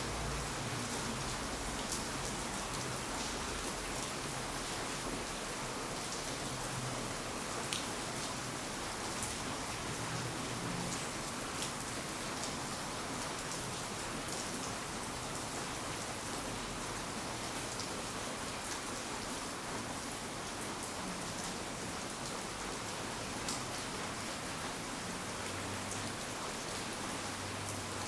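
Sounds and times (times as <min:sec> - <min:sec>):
raindrops hitting hard surfaces: 0:00.0 - 0:28.0
steady rain falling: 0:00.0 - 0:28.0.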